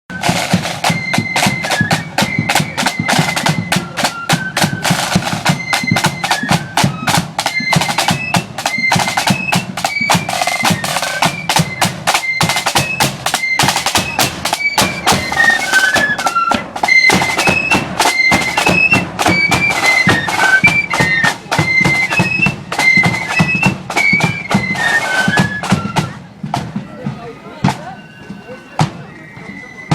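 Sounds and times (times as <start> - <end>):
flutes playing a melody: 0.1 - 29.9
snare and bass drumming: 0.1 - 29.9.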